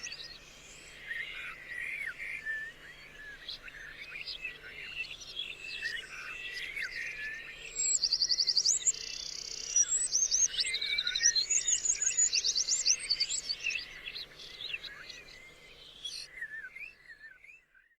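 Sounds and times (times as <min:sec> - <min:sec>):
songbirds chirping and trilling: 0:00.0 - 0:17.9.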